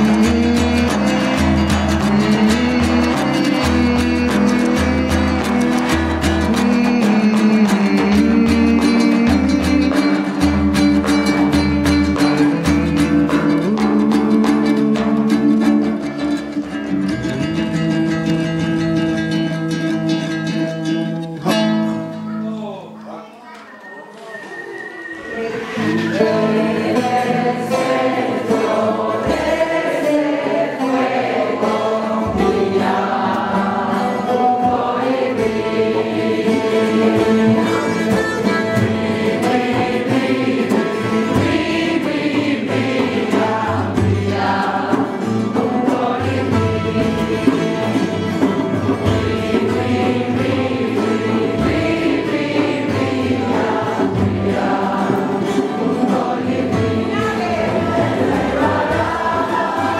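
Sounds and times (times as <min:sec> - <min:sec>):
group of voices singing: 0:00.0 - 0:18.4, 0:24.3 - 0:59.9.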